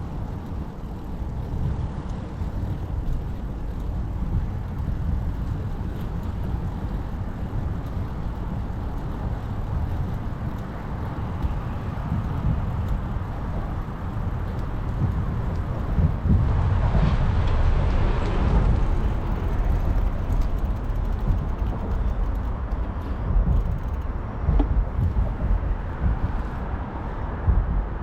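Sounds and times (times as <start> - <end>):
bicycle road noise: 0.0 - 28.0
wind buffeting microphone: 0.0 - 28.0.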